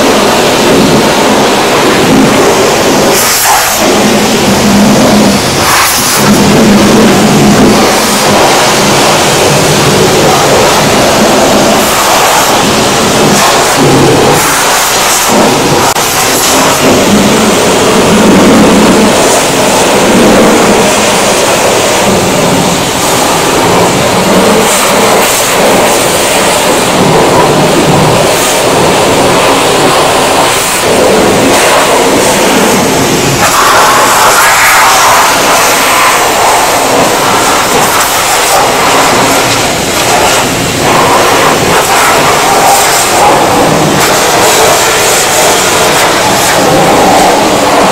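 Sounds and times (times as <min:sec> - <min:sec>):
water spray hissing on metal: 0:00.0 - 0:47.9.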